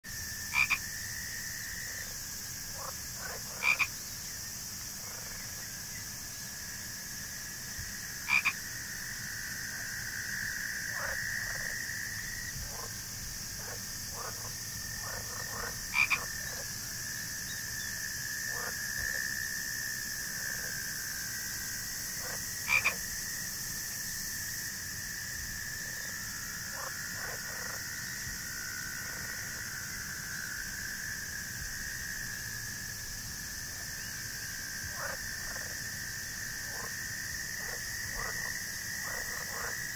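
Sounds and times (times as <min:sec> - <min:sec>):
swamp chorus: 0:00.0 - 0:39.9
frogs croaking: 0:00.1 - 0:39.9.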